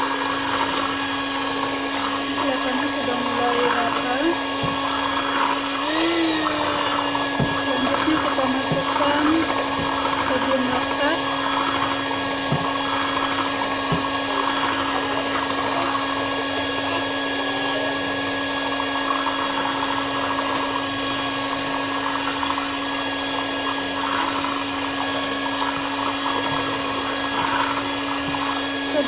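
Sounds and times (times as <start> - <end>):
handheld blender motor hum: 0.0 - 29.0.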